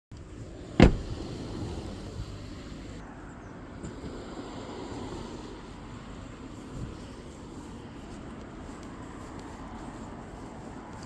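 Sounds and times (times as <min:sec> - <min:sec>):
low outdoor rumble: 0:00.1 - 0:11.0.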